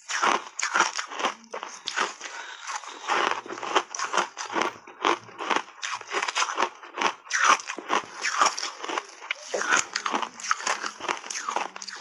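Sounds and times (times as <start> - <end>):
ice crunched between teeth: 0.0 - 12.0.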